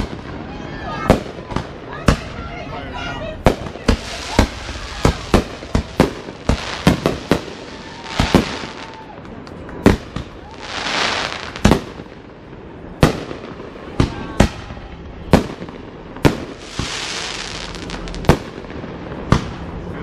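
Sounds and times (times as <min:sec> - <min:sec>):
fireworks bangs: 0:00.0 - 0:20.0
fireworks hissing and crackling: 0:00.0 - 0:20.0.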